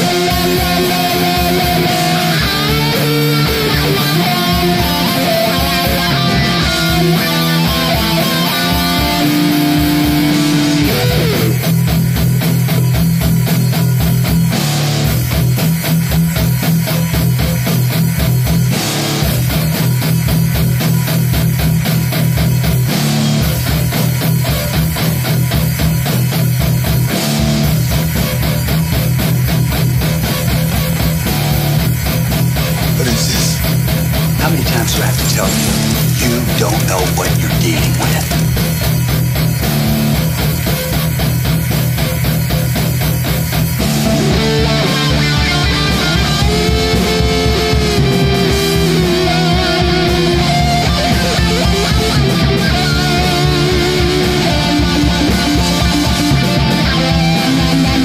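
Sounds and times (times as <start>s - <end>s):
heavy metal music: 0.0s - 58.0s.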